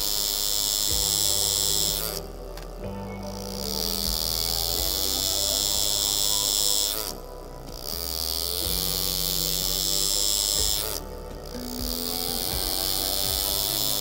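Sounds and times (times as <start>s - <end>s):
air engraving tool buzzing: 0.0s - 14.0s.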